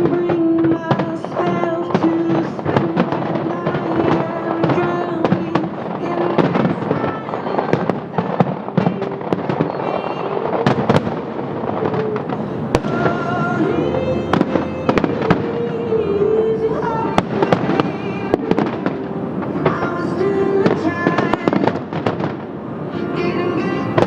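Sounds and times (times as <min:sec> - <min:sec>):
fireworks bursting and crackling: 0:00.0 - 0:24.0
music: 0:00.0 - 0:24.0.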